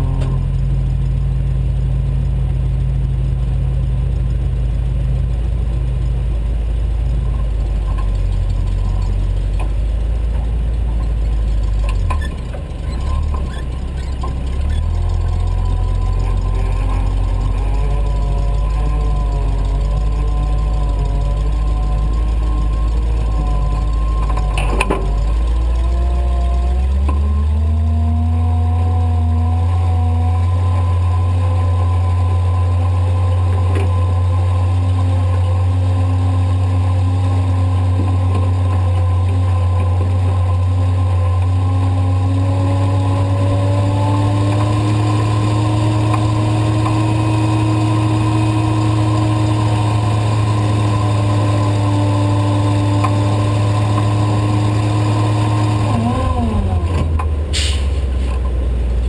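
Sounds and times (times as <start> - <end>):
truck engine under load: 0.0 - 59.0.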